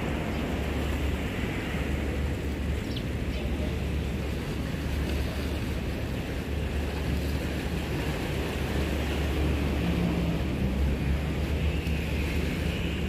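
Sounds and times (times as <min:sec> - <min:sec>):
waves washing against boulders: 0:00.0 - 0:13.0
wind rumble on microphone: 0:00.0 - 0:13.0.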